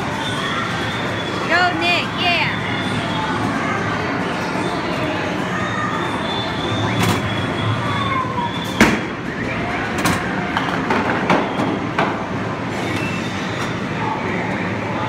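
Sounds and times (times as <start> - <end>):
hubbub of voices: 0.0 - 15.0.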